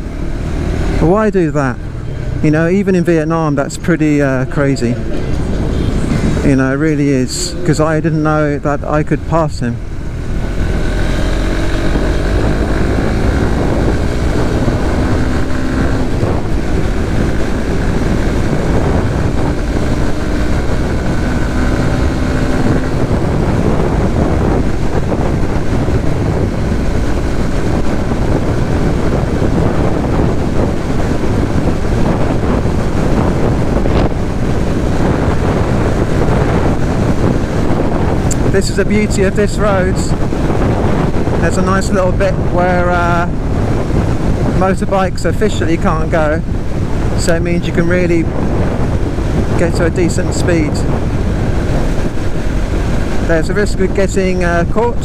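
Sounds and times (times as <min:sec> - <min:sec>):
motorcycle engine accelerating: 0:00.0 - 0:55.0
wind on microphone: 0:00.0 - 0:55.0.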